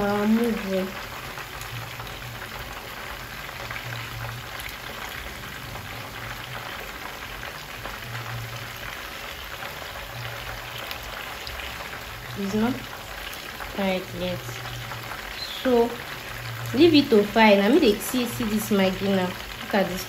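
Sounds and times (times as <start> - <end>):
fish frying in oil: 0.0 - 20.0.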